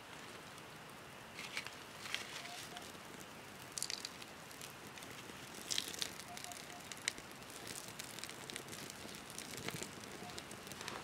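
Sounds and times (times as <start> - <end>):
campfire crackling: 0.0 - 11.0
fire sharp pops: 1.3 - 11.0.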